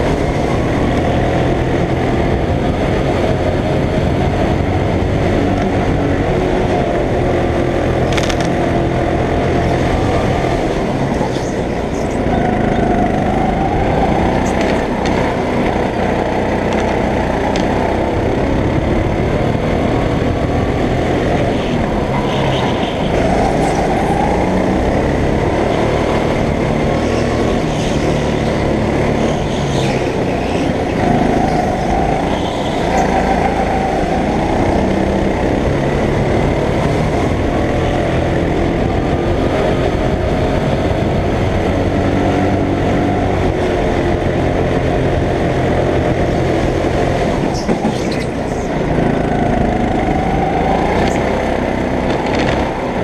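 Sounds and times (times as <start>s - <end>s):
go-kart engine running hard: 0.0s - 53.0s.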